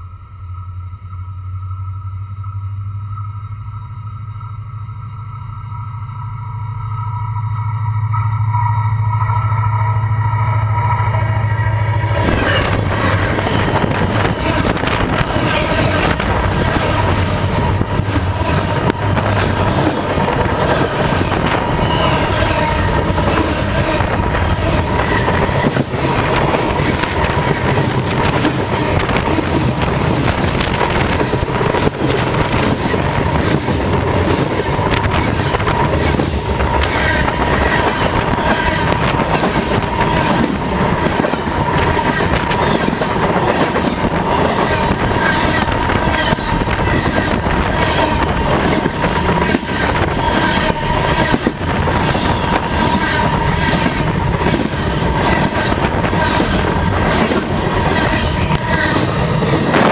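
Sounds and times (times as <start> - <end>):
steady high tone: 0.0 - 59.9
train wheels rushing on rails: 4.9 - 59.9.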